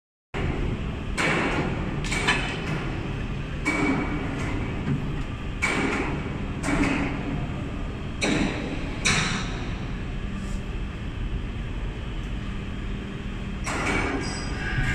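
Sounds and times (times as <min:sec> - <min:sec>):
machine low hum: 0:00.4 - 0:14.9.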